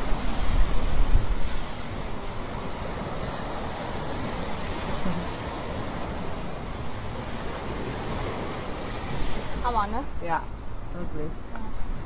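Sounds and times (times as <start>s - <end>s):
sea surf rushing: 0.0s - 12.0s
wind: 0.0s - 12.0s.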